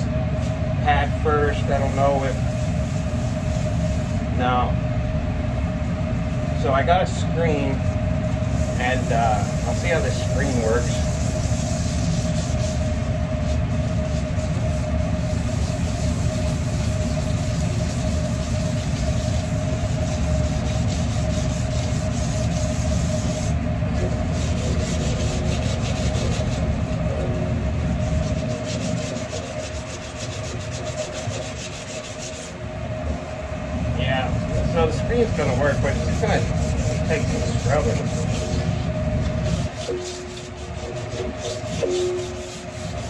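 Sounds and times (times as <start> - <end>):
grill screen scrubbing griddle: 0.0 - 4.6, 7.5 - 32.6, 34.3 - 43.0
constant low hum: 0.0 - 43.0.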